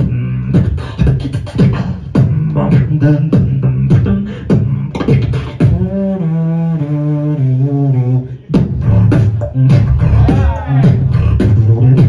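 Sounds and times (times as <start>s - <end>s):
beatboxing kick and snare: 0.0s - 6.2s, 8.4s - 12.0s
vocal bass line: 0.0s - 12.0s.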